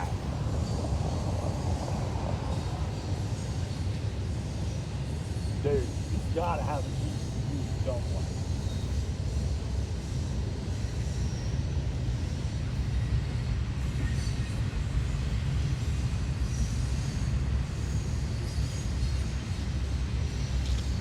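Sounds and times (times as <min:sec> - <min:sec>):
freight train rumbling past: 0:00.0 - 0:21.0
hiss of wheels and wind: 0:00.0 - 0:21.0.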